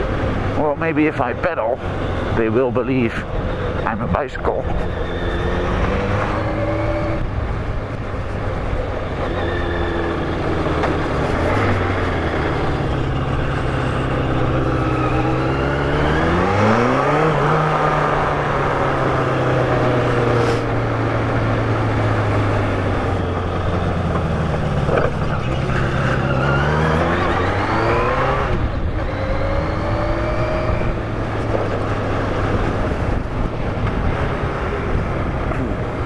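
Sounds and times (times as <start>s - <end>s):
motorcycle engine accelerating: 3.3s - 36.0s.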